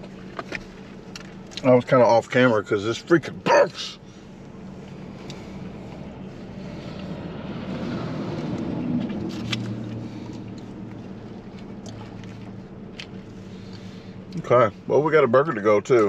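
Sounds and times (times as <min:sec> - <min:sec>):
car idling hum: 0:00.0 - 0:16.0.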